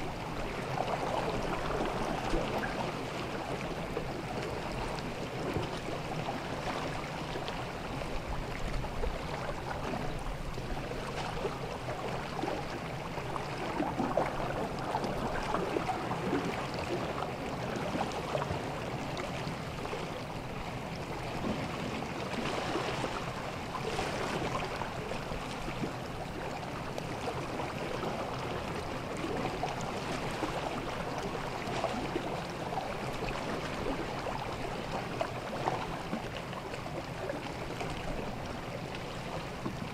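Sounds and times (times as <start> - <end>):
water lapping at shore: 0.0 - 39.9.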